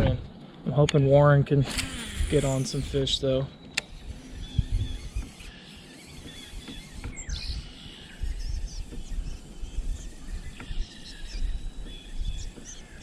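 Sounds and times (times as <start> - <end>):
low rumbling background: 0.0 - 13.0
small birds chirping: 0.3 - 13.0.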